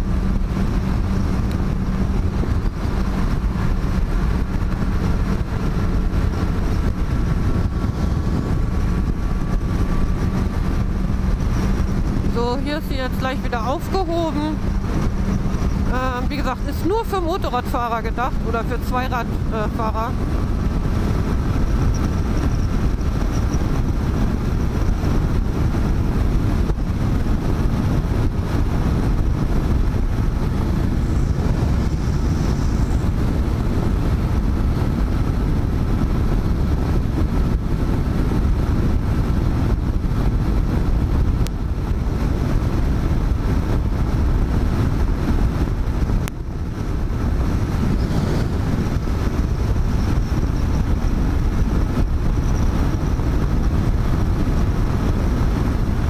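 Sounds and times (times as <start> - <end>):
motorcycle engine: 0.0 - 56.0
wind rush: 0.0 - 56.0.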